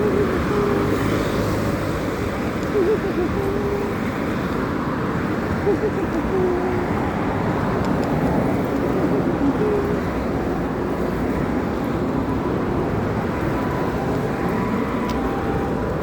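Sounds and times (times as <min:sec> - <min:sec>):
road noise on wet road: 0:00.0 - 0:16.0.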